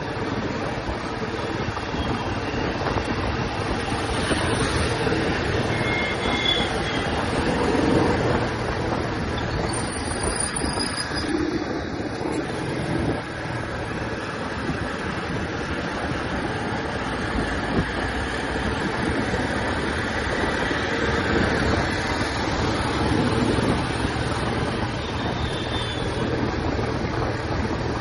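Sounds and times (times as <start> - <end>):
road noise: 0.0 - 28.0
wind noise: 0.0 - 28.0.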